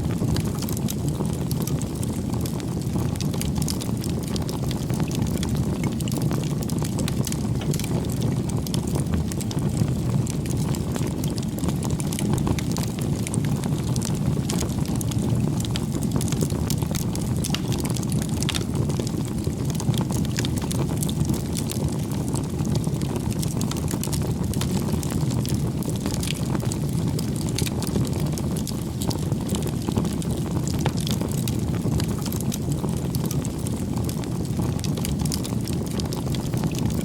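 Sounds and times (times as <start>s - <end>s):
burning wood crackling and popping: 0.0s - 37.0s
low rush of flames: 0.0s - 37.0s.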